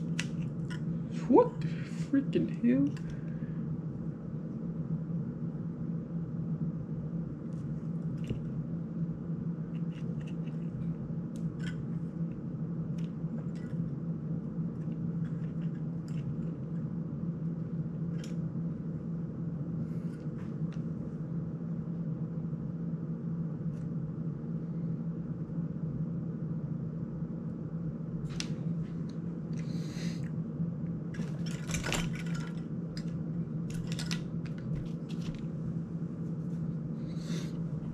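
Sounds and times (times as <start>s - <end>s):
low room hum: 0.0s - 37.9s.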